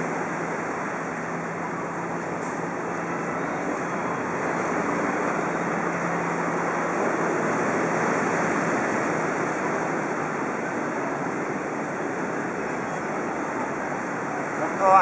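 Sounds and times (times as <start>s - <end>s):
beachfront road ambience: 0.0s - 15.0s.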